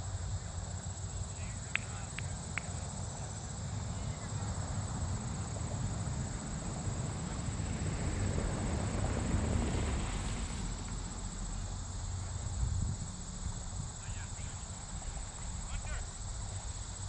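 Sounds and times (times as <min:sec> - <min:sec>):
insects trilling: 0:00.0 - 0:17.0
low irregular rumble: 0:00.0 - 0:17.0
broad rushing noise: 0:01.3 - 0:17.0.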